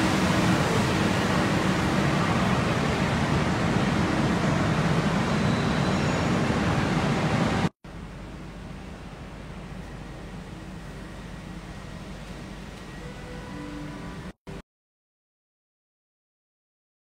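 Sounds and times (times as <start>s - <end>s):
railway platform rumble and hiss: 0.0s - 14.4s.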